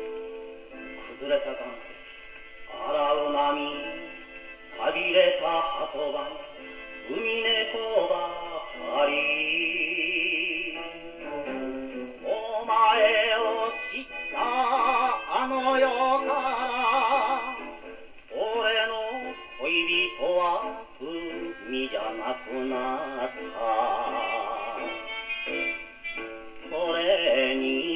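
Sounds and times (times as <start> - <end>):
man singing on gramophone record: 0.0 - 27.9.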